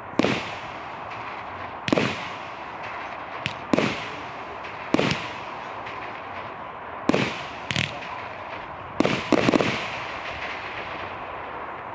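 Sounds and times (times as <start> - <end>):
firework hiss: 0.0 - 11.9
firework barrage bangs: 0.1 - 11.5.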